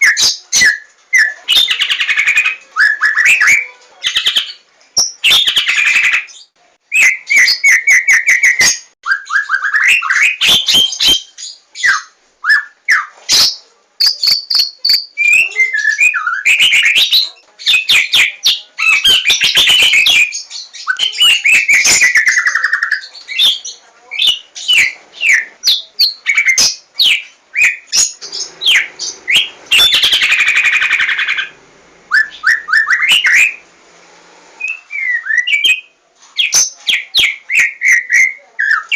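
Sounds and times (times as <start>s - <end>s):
bird singing trills and whistles: 0.0s - 33.6s, 34.6s - 38.9s.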